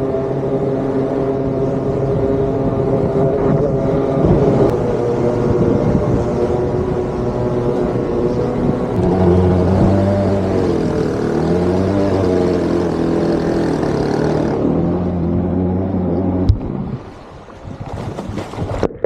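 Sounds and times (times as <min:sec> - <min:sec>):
motorized surfboard engine wavering: 0:00.0 - 0:17.0
deeper steady engine note: 0:00.0 - 0:17.4.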